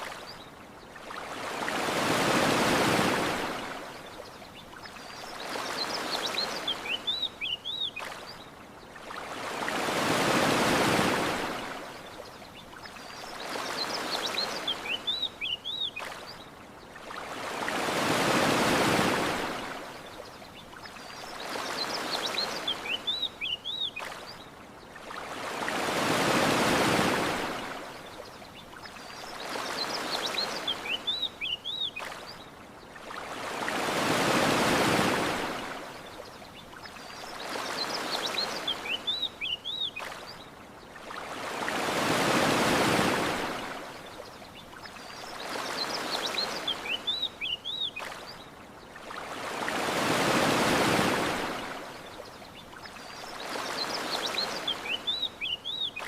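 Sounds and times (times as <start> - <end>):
ocean waves washing onto beach: 0.0 - 56.0
birds chirping: 3.6 - 10.9, 11.6 - 19.0, 19.6 - 43.0, 43.6 - 56.0.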